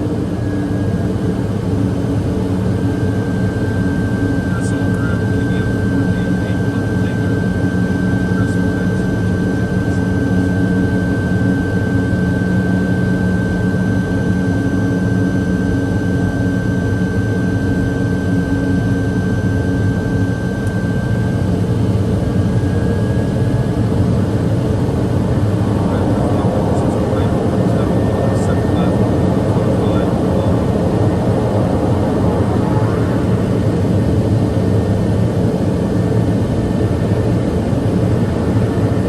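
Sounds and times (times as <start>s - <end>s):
turboprop engine whine: 0.0s - 39.0s.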